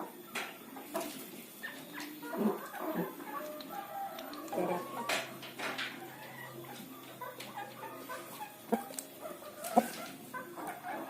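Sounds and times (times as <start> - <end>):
rooster clucking: 0.8 - 11.0.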